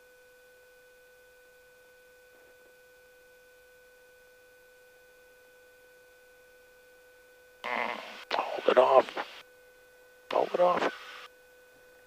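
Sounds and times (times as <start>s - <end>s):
faint steady tone: 0.0s - 12.0s.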